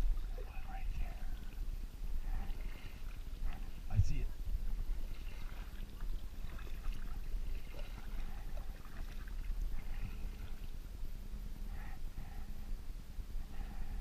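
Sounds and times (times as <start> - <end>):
water lapping against kayak hull: 0.0 - 12.5
wind rumble on microphone: 0.0 - 14.0.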